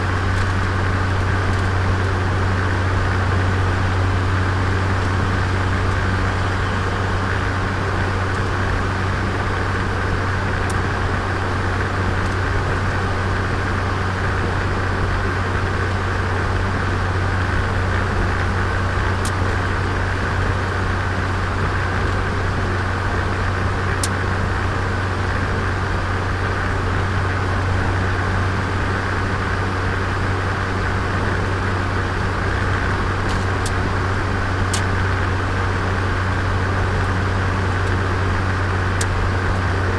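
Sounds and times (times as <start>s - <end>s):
car engine running steadily: 0.0s - 39.9s
road noise: 0.0s - 39.9s.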